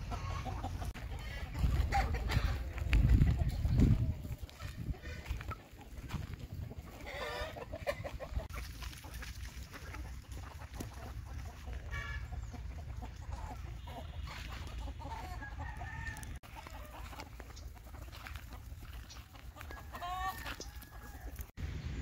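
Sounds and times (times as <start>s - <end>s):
chickens clucking and calling: 0.0s - 21.9s.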